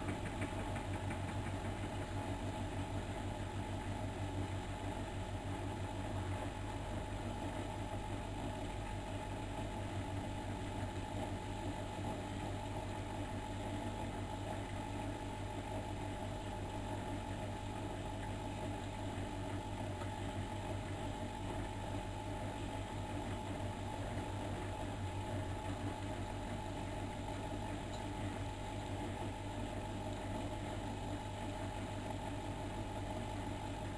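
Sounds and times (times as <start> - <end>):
washing machine humming: 0.0 - 33.9.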